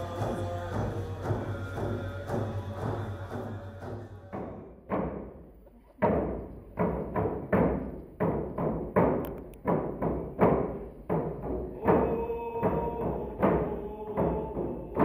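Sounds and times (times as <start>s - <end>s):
hand drums beating: 0.0s - 5.4s, 6.0s - 15.0s.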